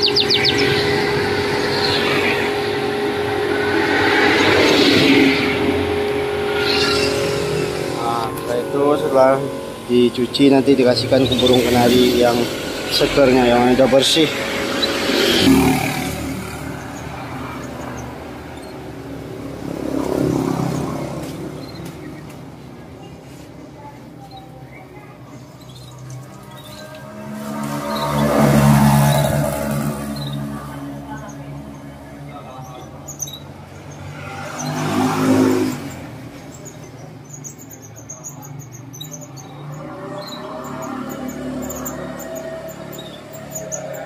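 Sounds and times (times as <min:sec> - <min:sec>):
small birds chirping: 0:00.0 - 0:04.8, 0:05.9 - 0:44.0
road vehicle passing by: 0:00.0 - 0:44.0.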